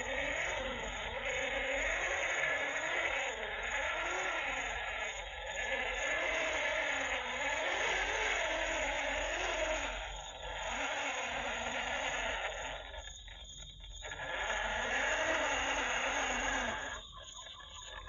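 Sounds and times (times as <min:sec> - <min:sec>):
electric motor and gearbox whirring: 0:00.0 - 0:18.0.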